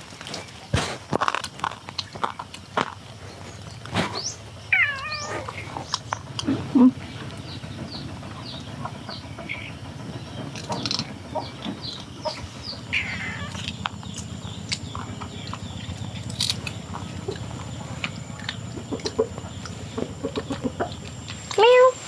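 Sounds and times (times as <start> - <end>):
birds chirping: 2.0 - 22.0.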